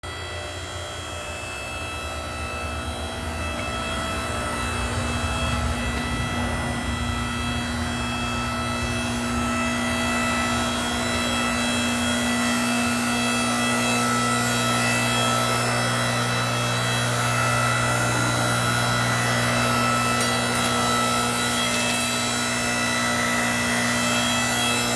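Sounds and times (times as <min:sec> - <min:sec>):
log splitter motor droning: 0:00.0 - 0:24.9.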